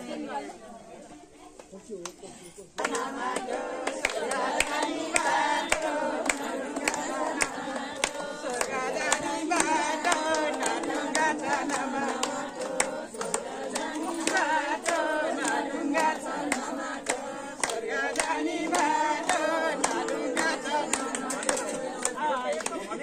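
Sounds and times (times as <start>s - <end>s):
group singing devotional song: 0.0s - 1.3s, 2.5s - 23.0s
rhythmic hand-clapping: 1.5s - 23.0s.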